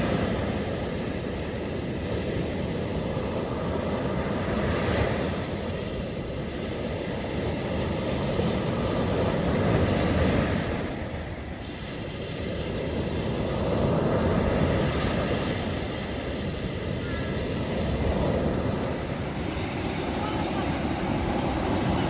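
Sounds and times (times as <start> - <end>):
surf washing on beach: 0.0 - 22.0.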